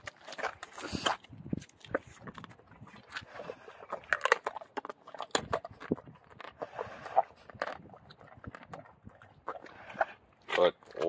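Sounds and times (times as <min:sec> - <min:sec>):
dog crunching bones: 0:00.0 - 0:11.0.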